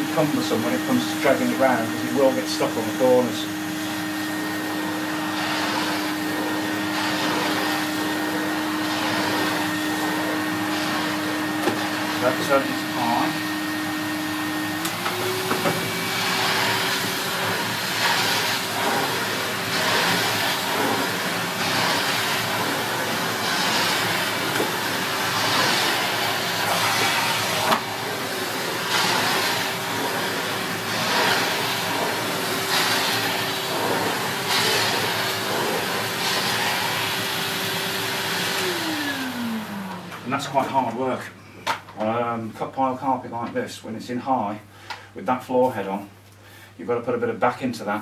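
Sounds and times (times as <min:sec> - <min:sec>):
vacuum cleaner motor whine: 0:00.0 - 0:41.2.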